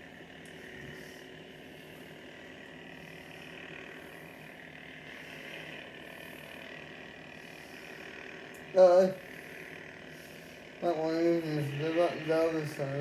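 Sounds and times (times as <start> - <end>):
lightsaber hum: 0.0 - 13.0.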